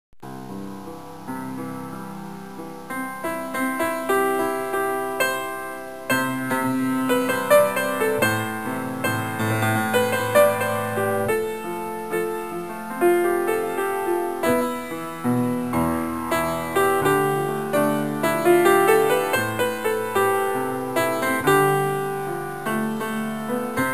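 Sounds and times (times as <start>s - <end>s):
gentle piano melody: 0.2s - 23.9s.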